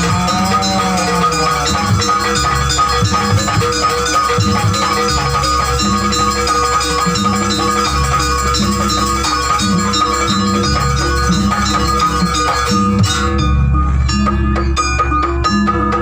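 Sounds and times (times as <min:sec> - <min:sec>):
percussion ensemble music: 0:00.0 - 0:16.0.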